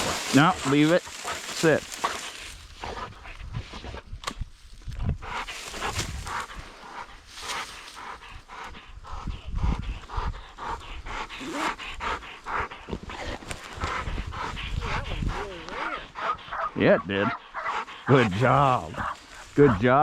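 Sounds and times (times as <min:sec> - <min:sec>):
dog panting: 0:00.0 - 0:03.6, 0:05.0 - 0:20.0.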